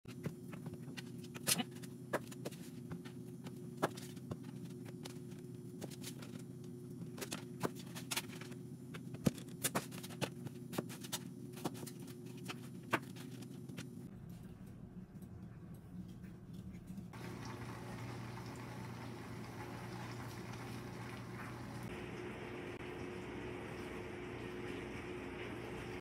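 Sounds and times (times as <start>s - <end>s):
steady low hum: 0.1s - 26.0s.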